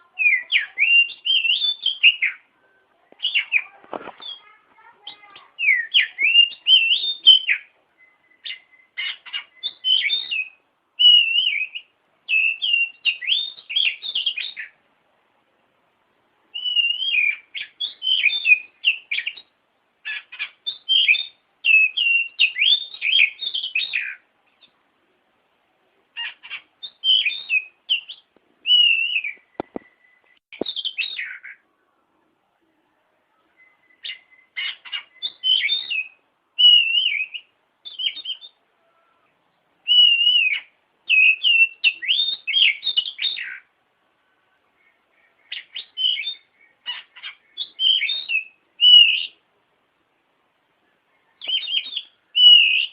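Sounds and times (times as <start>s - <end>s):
songbird whistling and warbling: 0.0s - 14.8s, 16.5s - 24.8s, 26.2s - 31.8s, 33.3s - 39.2s, 39.8s - 43.7s, 44.6s - 49.4s, 51.1s - 52.9s.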